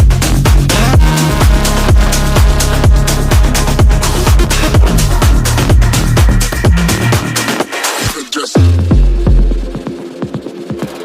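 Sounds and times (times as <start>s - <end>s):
electronic dance music: 0.0s - 11.0s
kick drum beat: 0.0s - 11.0s.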